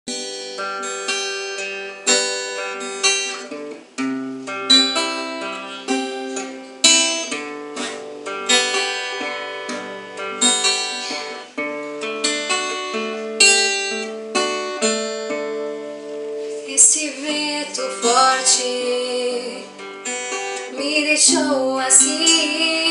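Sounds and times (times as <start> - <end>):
acoustic guitar plucking: 0.1 - 22.9.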